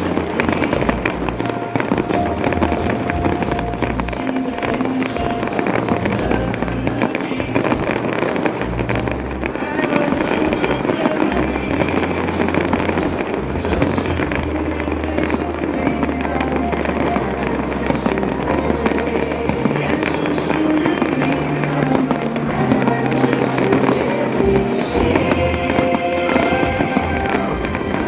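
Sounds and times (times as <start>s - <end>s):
fireworks crackling: 0.0s - 28.0s
music playing: 0.0s - 28.0s.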